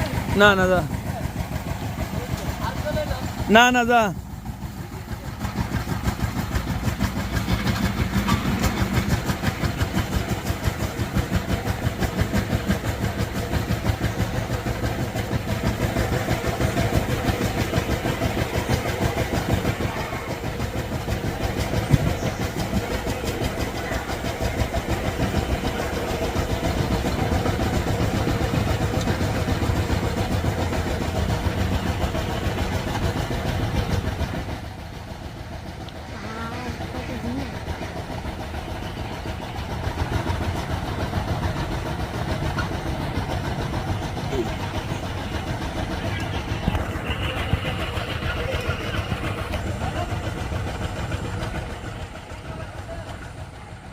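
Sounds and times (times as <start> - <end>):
tiller diesel engine chugging: 0.0 - 53.9.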